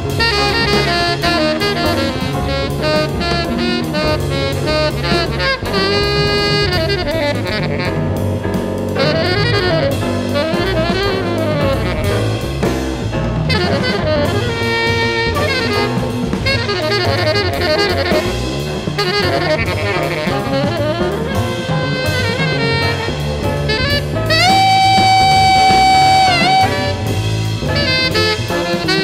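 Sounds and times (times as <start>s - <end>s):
drum kit beat: 0.0s - 29.0s
saxophone melody: 0.0s - 29.0s.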